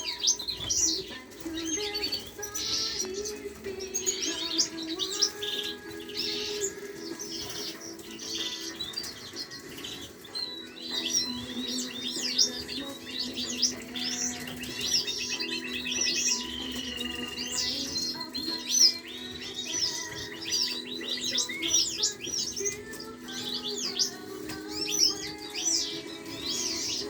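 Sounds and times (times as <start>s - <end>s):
background music: 0.0s - 27.0s
canaries chirping: 0.0s - 27.0s.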